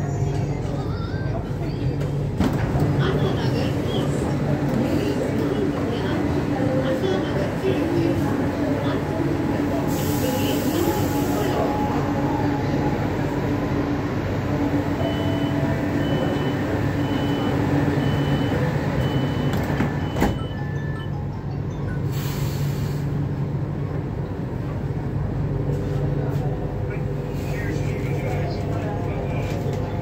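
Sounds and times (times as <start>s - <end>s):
train car hum and rumble: 0.0s - 30.0s.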